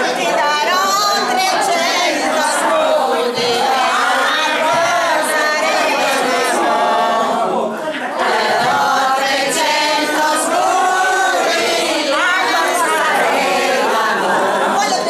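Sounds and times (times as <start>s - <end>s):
women singing unaccompanied in unison: 0.0s - 15.0s.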